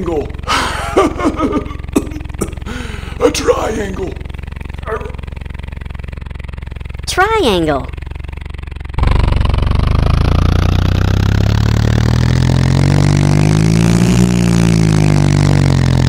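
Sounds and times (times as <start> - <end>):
cartoon monster truck engine: 0.0 - 16.0.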